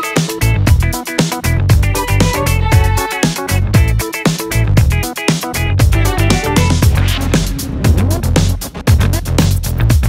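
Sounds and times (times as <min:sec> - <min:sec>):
dance music with kick drum: 0:00.2 - 0:10.0.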